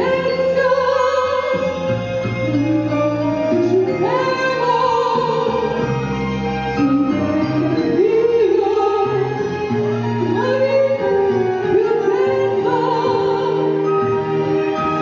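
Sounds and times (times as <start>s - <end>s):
woman singing into microphone: 0.0s - 5.8s, 6.8s - 9.6s, 10.2s - 14.1s
instrumental accompaniment: 0.0s - 15.0s.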